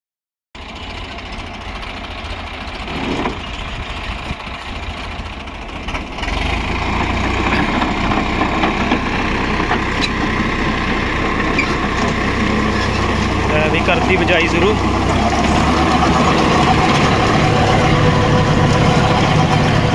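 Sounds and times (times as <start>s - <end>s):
tractor diesel engine running: 0.6s - 19.9s.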